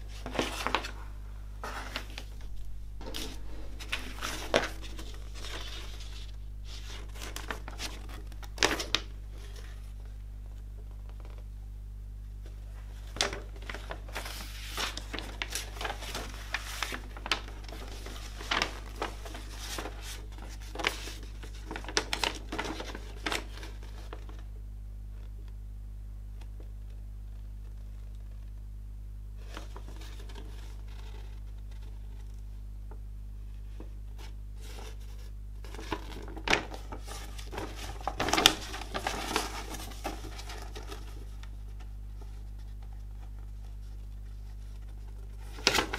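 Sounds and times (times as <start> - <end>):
paper rustling and crinkling: 0.0 - 10.2, 12.4 - 24.5, 29.4 - 32.5, 33.6 - 45.9
steady low hum: 0.0 - 45.9.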